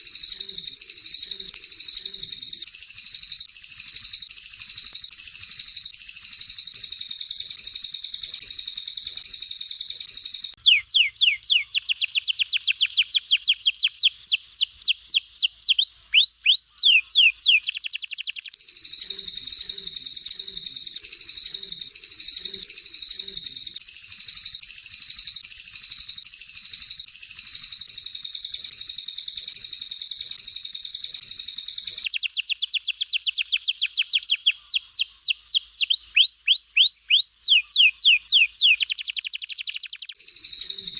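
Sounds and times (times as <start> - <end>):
bird high trill: 0.0 - 40.9.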